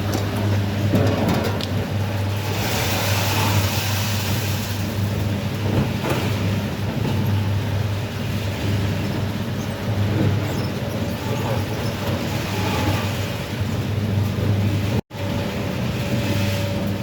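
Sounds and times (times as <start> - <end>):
dryer machine humming and rushing: 0.0 - 17.0.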